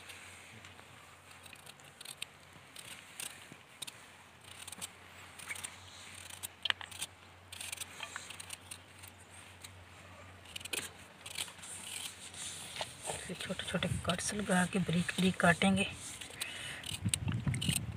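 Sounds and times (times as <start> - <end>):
faint steady hum: 0.0 - 17.9
light clicks and scrapes: 0.0 - 17.9.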